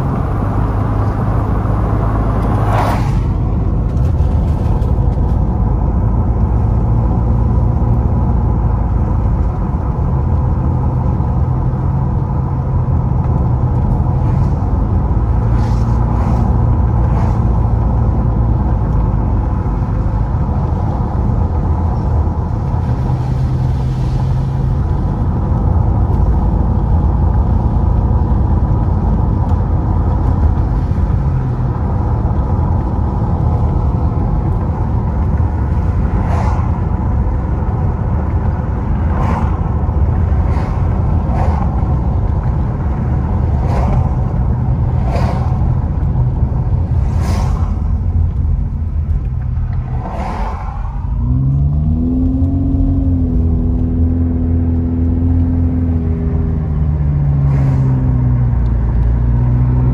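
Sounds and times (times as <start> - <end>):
car driving on wet road: 0.0 - 59.9.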